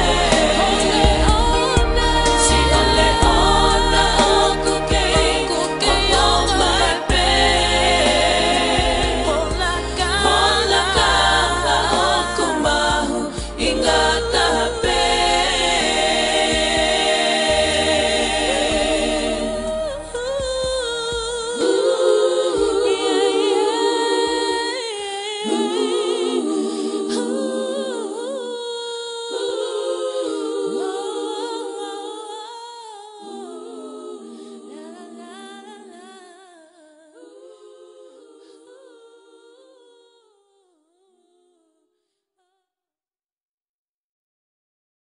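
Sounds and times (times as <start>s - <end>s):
voices singing in harmony: 0.0s - 40.4s.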